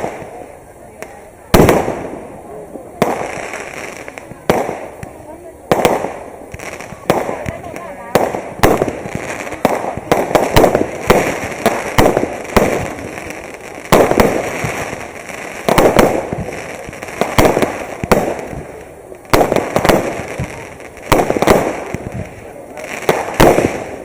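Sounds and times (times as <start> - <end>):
fireworks bangs with rumbling echo: 0.0 - 24.0.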